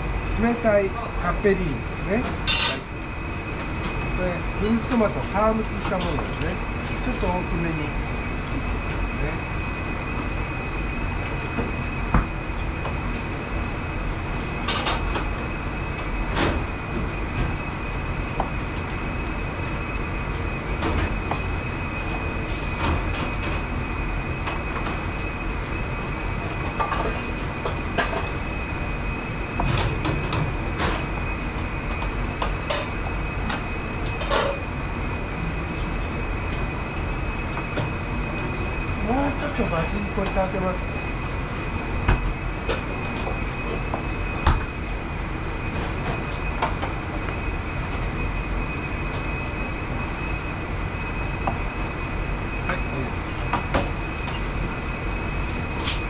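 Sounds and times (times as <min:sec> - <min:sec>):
machinery hum with high whine: 0:00.0 - 0:56.0.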